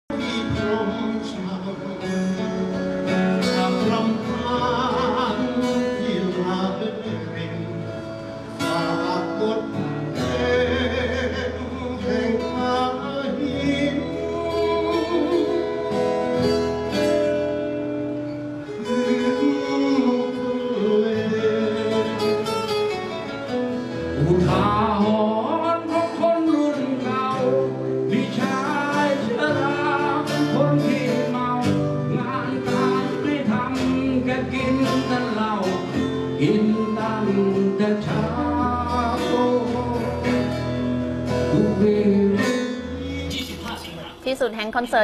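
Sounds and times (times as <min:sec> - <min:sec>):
person singing: 0:00.1 - 0:16.5, 0:18.6 - 0:23.2, 0:23.8 - 0:44.0
guitar and band: 0:00.1 - 0:45.0.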